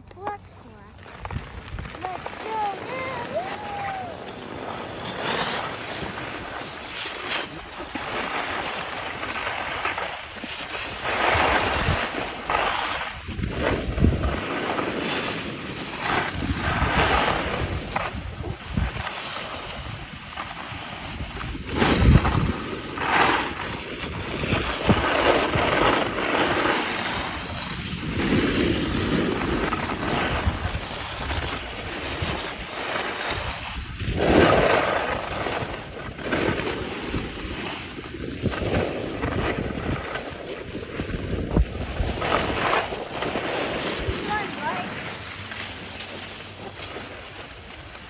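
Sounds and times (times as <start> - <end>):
wind buffeting microphone: 0.0 - 48.0
skis scraping on snow: 0.6 - 48.0.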